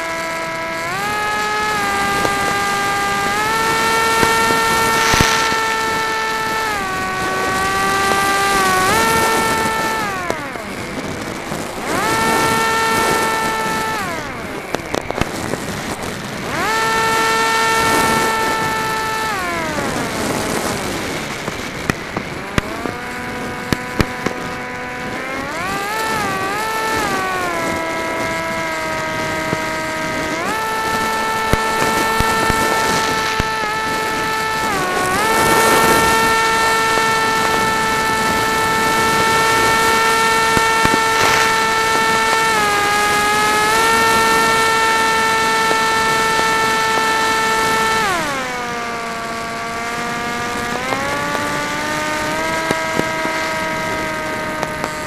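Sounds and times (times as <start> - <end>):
propeller motor whine: 0.0 - 55.0
fireworks popping: 0.3 - 55.0.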